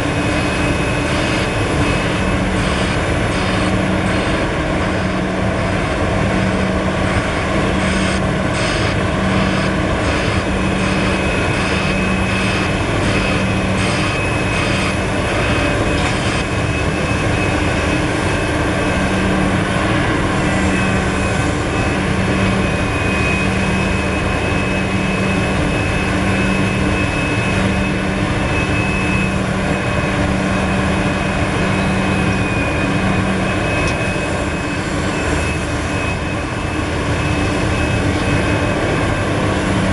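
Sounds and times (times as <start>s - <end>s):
excavator diesel engine running: 0.0s - 39.9s
steady high whine: 0.0s - 39.9s.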